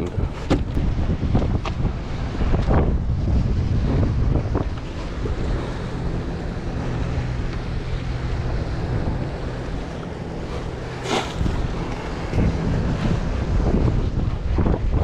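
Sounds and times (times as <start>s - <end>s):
steady low drone: 0.0s - 15.0s
wind buffeting microphone: 0.0s - 15.0s.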